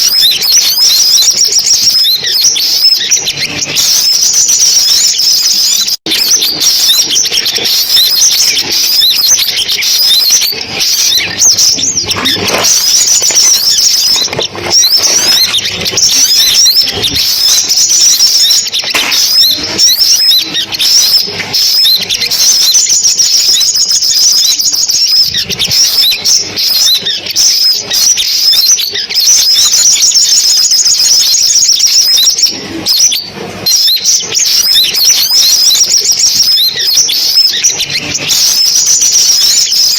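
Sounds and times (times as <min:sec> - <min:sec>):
sunbirds chirping and trilling: 0:00.0 - 0:39.9.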